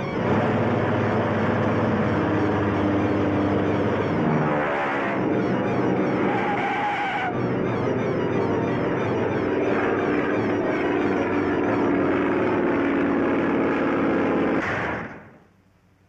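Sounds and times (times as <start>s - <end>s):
cartoon propeller plane engine: 0.0s - 14.6s.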